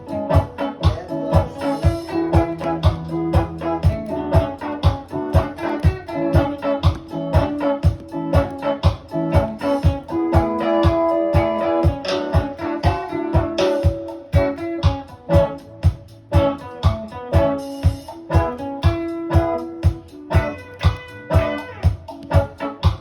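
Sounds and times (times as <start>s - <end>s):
music with plucked guitar: 0.0s - 23.0s.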